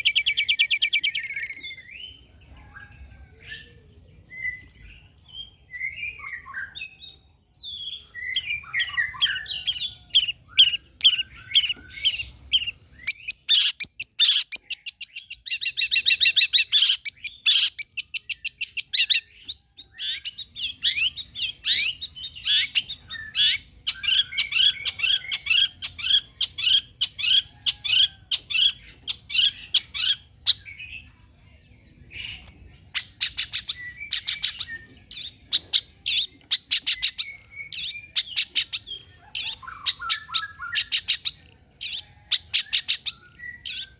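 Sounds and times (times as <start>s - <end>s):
bird chattering song: 0.0s - 31.1s, 32.1s - 43.9s.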